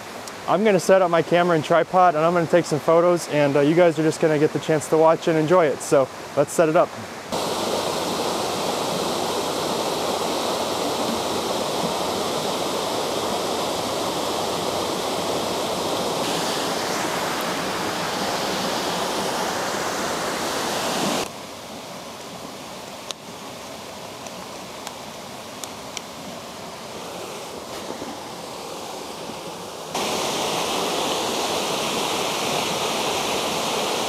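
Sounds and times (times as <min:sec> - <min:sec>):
waterfall rushing over boulders: 0:00.0 - 0:34.0.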